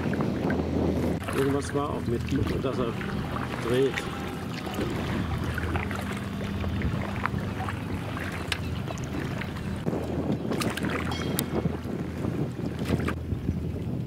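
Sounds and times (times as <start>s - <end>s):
steady low hum: 0.0s - 12.5s
water noise from boat: 0.0s - 14.0s
wind on microphone: 0.0s - 14.0s.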